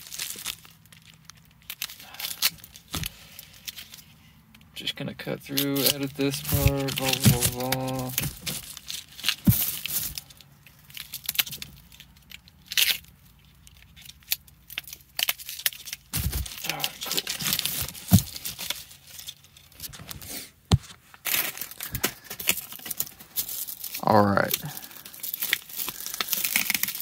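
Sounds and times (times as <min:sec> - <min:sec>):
packing tape tearing: 0:00.0 - 0:04.1, 0:05.5 - 0:19.9, 0:21.2 - 0:27.0.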